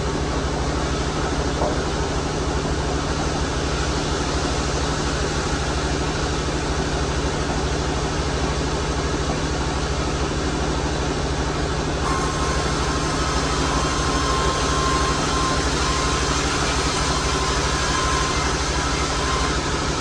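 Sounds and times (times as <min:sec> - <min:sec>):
sawmill machinery drone: 0:00.0 - 0:20.0.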